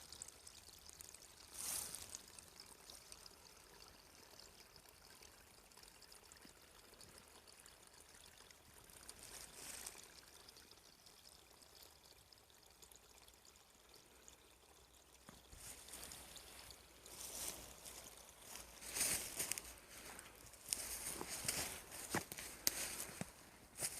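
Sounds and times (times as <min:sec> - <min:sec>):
trickle of running water: 0:00.0 - 0:23.9.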